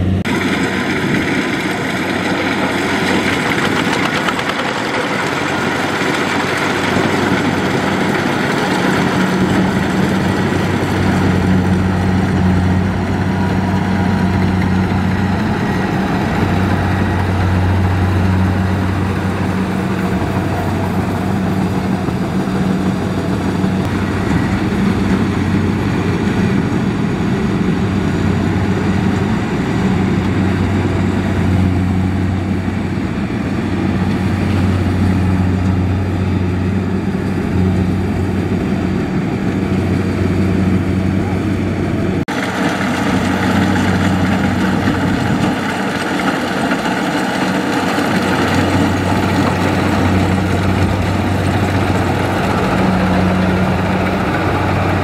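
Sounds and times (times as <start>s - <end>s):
combine harvester engine hum: 0.0s - 55.0s.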